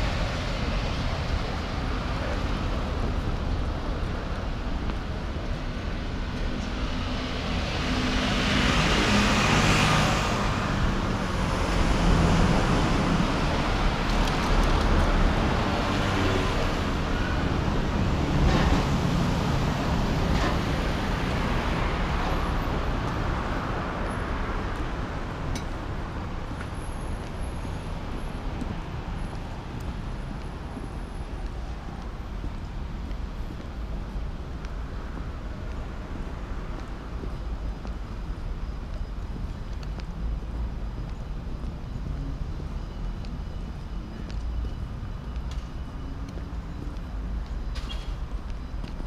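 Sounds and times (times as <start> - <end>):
cars passing on street: 0.0 - 49.0.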